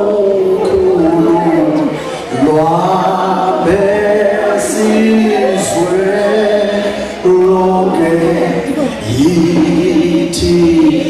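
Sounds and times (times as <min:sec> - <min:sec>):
group singing a cappella hymn: 0:00.0 - 0:11.0.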